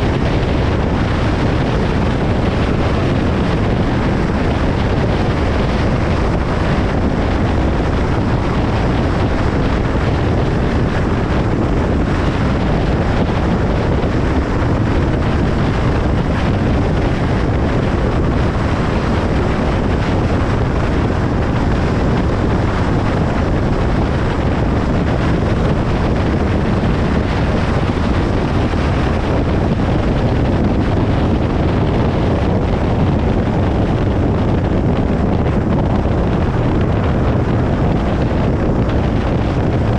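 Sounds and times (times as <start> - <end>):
car road noise on motorway: 0.0 - 39.9.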